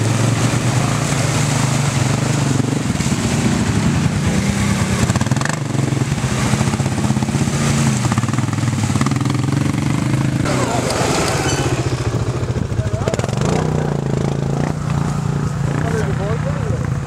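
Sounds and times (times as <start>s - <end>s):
atv engines running under load: 0.0s - 17.0s
wheels churning through mud: 0.0s - 17.0s.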